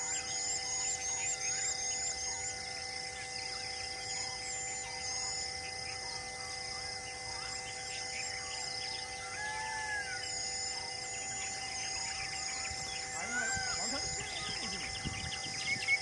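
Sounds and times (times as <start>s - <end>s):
birds chirping and whistling: 0.0s - 16.0s
steady droning hum: 0.0s - 16.0s.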